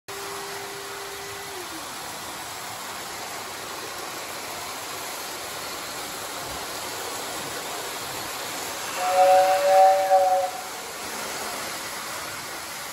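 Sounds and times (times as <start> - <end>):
model train motors whirring: 0.1 - 12.9.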